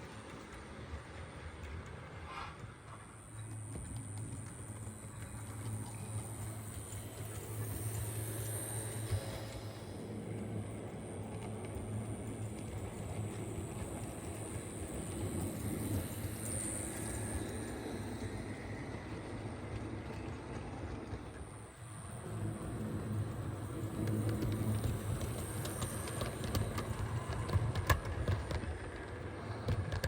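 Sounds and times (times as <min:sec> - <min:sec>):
model train motor hum: 0:00.0 - 0:30.0
wheels clicking on rails: 0:00.0 - 0:30.0.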